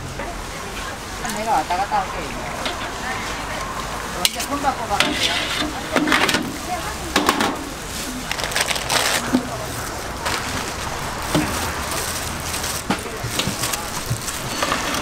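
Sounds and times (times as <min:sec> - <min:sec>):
background hiss and crackle: 0:00.0 - 0:15.0.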